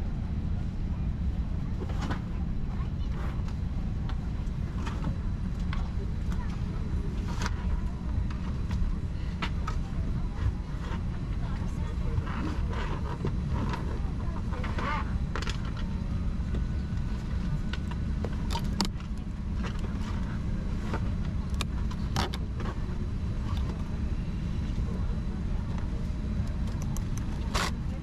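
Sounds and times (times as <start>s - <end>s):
low rumble of cabin systems: 0.0s - 28.0s.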